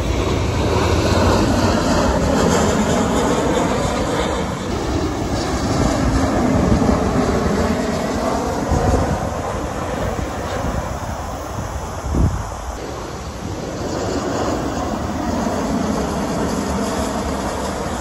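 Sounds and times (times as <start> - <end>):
jet airliner passing overhead: 0.0 - 18.0
wind buffeting microphone: 0.0 - 18.0.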